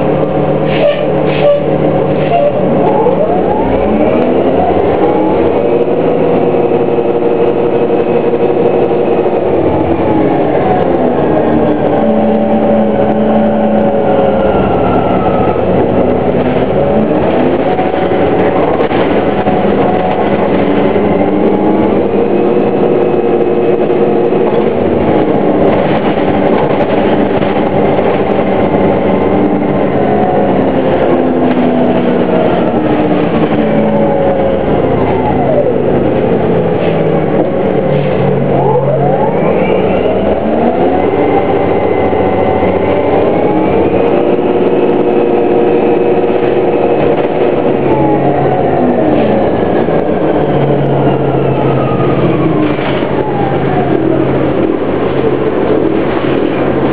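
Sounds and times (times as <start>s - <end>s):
bus electric drive whine: 0.0s - 56.9s.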